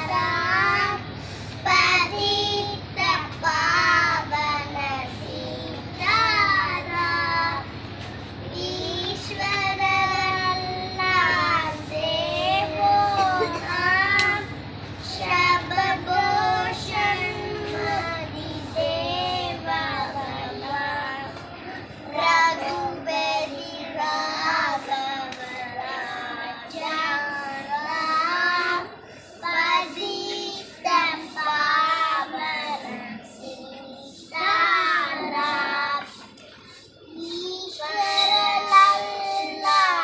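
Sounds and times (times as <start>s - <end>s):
children singing: 0.0s - 7.7s, 8.5s - 40.0s.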